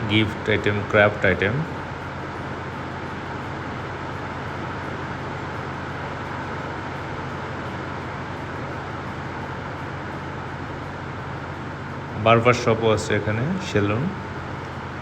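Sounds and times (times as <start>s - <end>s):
background hum and hiss: 0.0s - 15.0s
constant low tone: 0.0s - 15.0s.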